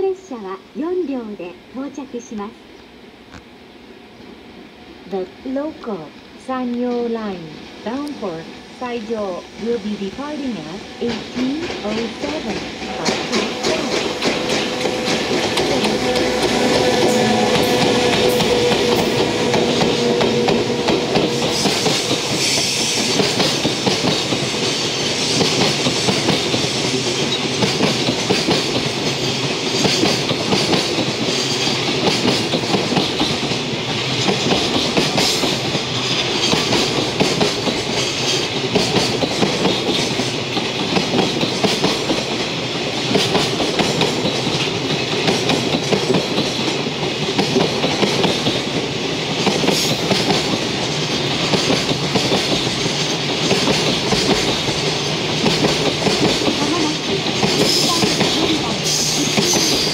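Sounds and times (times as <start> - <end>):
train wheels clattering over rail joints: 11.0 - 59.9.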